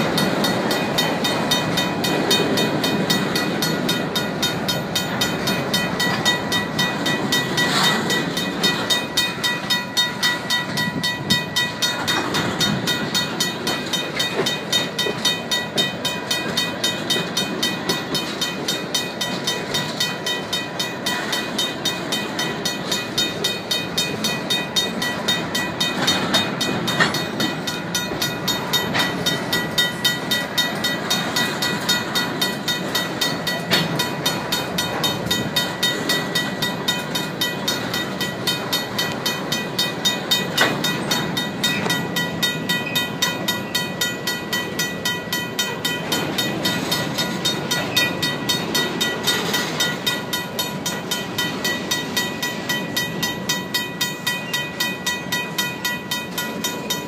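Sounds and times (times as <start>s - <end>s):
crossing bell ringing: 0.0s - 57.0s
train wheels on rails: 0.0s - 57.0s.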